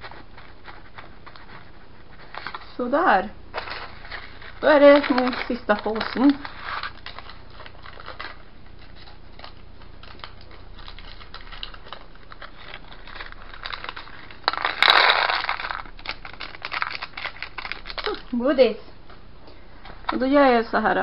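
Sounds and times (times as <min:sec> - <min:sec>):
foil packet crinkling: 0:00.0 - 0:18.4.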